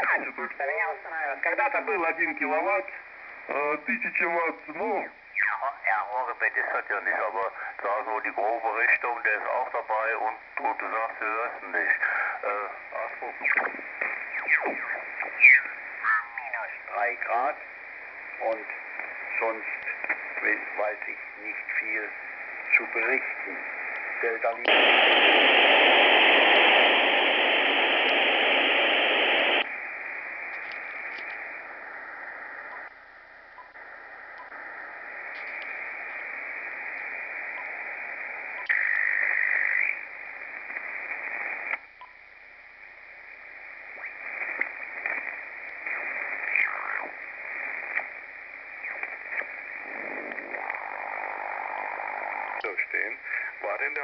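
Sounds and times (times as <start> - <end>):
light radio crackle: 0.0 - 54.0
radio receiver hiss and static: 0.0 - 54.0.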